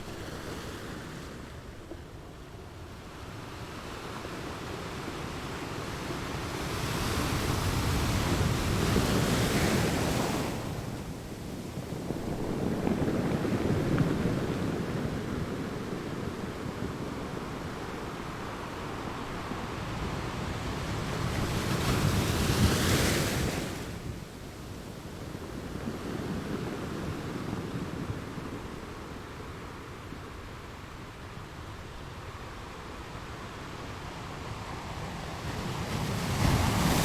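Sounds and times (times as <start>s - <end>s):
sea waves washing on shore: 4.5s - 37.0s.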